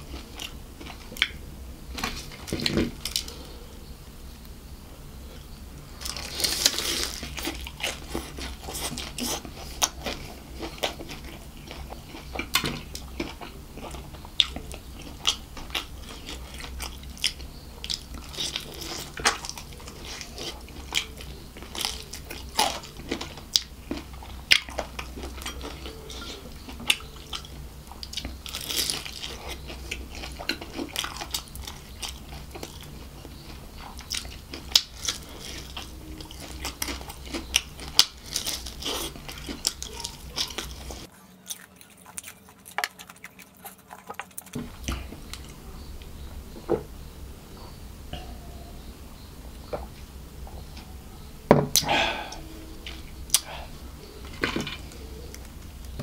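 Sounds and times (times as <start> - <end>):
crunchy chewing: 0.0 - 4.6, 5.2 - 56.0
steady low hum: 0.0 - 56.0.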